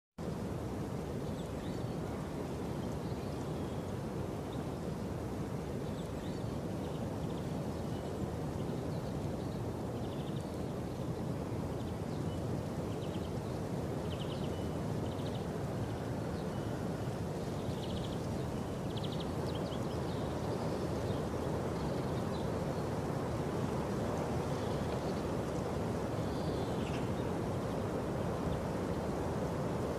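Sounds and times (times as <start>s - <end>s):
small birds chirping: 1.1s - 29.9s.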